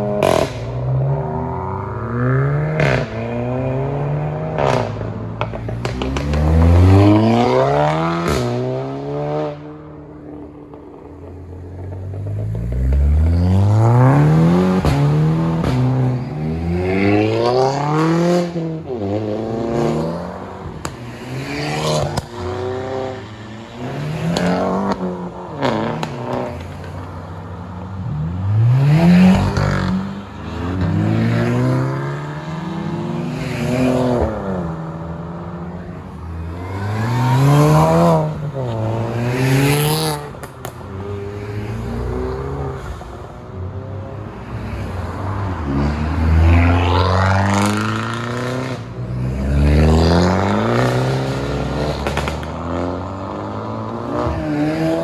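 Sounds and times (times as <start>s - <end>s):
cars accelerating hard: 0.0s - 10.9s, 11.6s - 55.0s.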